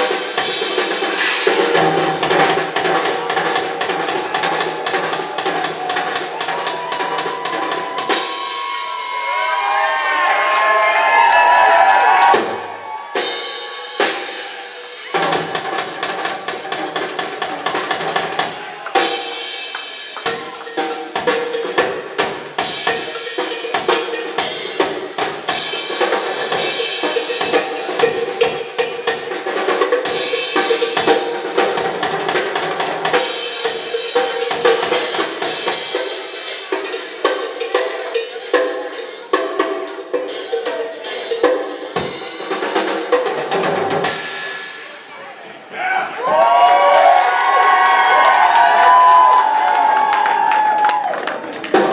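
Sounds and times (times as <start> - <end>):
rock drum kit playing: 0.0 - 45.2.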